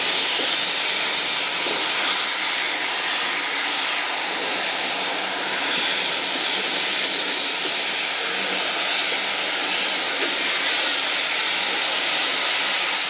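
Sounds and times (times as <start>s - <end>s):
steam train rushing hiss: 0.0s - 13.0s.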